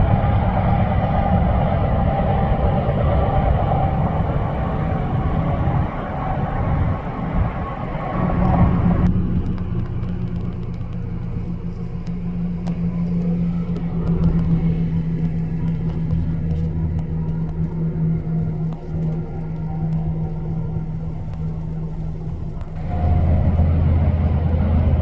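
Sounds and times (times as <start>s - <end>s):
highway traffic drone: 0.0s - 25.0s.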